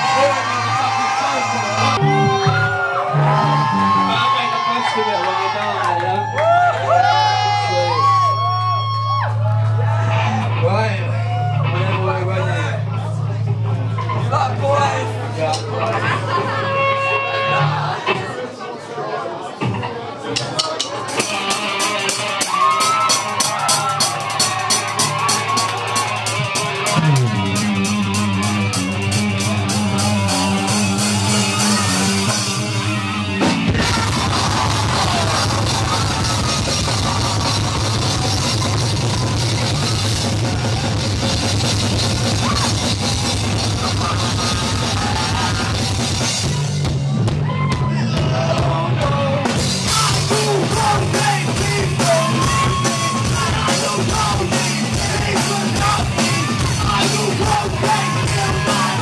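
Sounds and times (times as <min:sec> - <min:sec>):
live rock band playing: 0:00.0 - 0:05.7, 0:06.9 - 0:18.4, 0:19.6 - 0:59.0.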